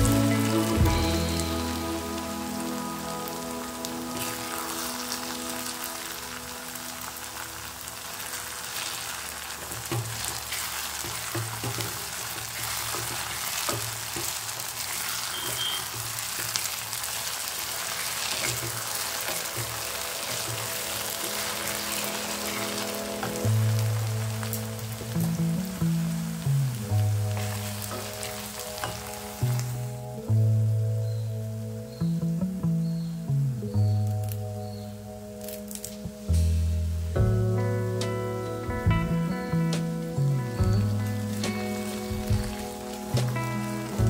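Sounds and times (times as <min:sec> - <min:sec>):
background music: 0:00.0 - 0:15.3, 0:16.1 - 0:44.0
okra sizzling in oil: 0:00.0 - 0:33.0, 0:33.8 - 0:44.0.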